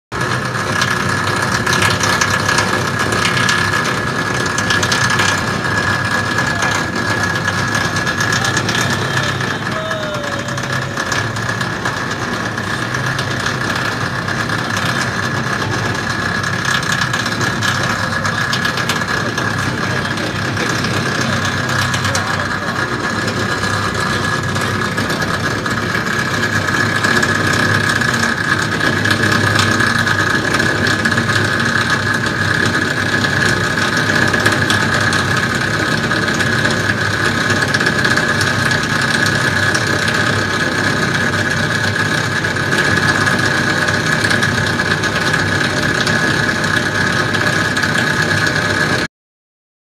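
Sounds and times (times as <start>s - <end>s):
end mill cutting metal: 0.1s - 49.1s
spindle high whine: 0.2s - 49.1s.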